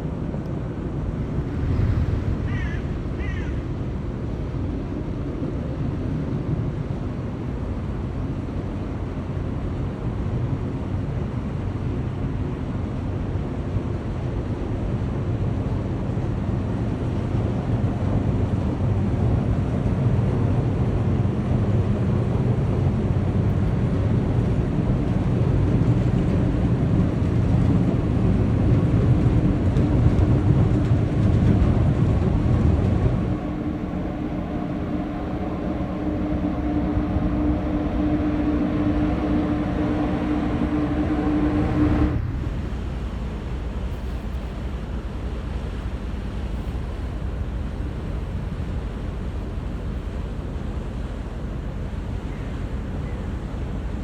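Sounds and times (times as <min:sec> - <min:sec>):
ship engine rumble: 0:00.0 - 0:54.0.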